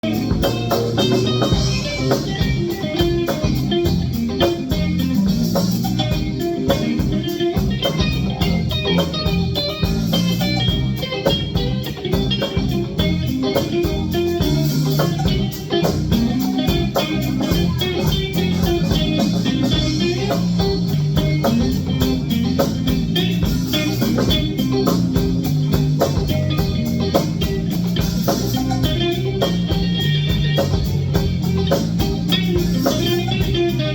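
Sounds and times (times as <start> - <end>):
bass guitar: 0.0 - 33.9
guitar: 0.0 - 33.9
live band playing: 0.0 - 33.9
steady beat: 0.0 - 33.9.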